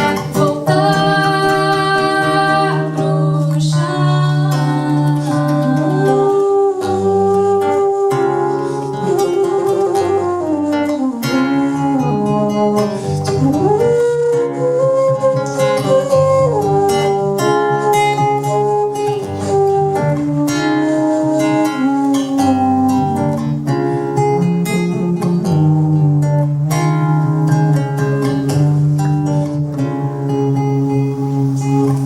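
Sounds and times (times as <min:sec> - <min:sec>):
sliding melody line: 0:00.0 - 0:32.0
strummed acoustic guitar: 0:00.0 - 0:32.0.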